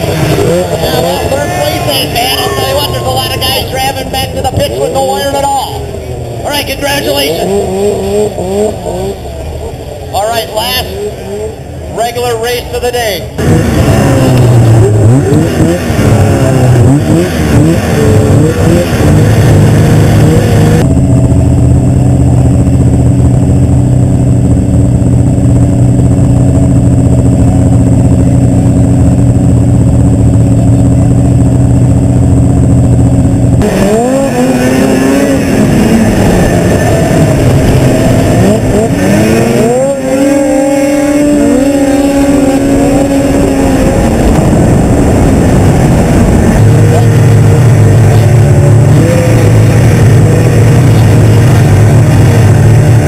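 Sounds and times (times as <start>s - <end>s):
snowmobile engine revving: 0.0s - 53.0s.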